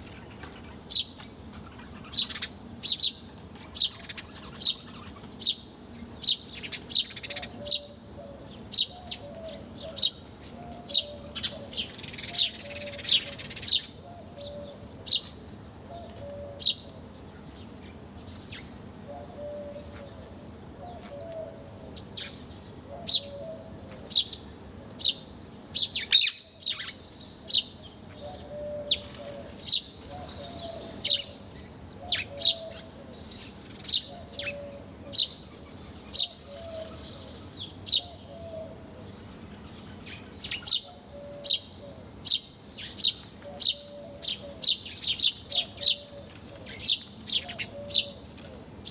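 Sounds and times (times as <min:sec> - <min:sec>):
lower repeated bird calls: 0:00.0 - 0:48.9.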